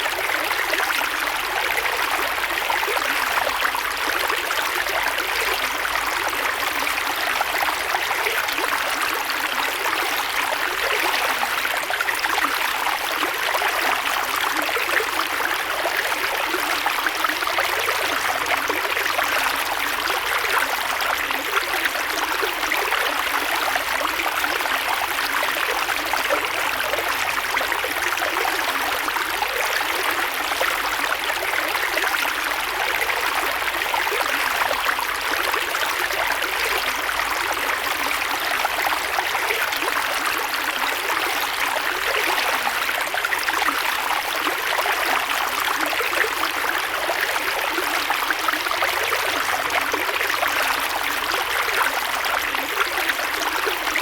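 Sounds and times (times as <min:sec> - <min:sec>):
creek flowing over stones: 0:00.0 - 0:54.0.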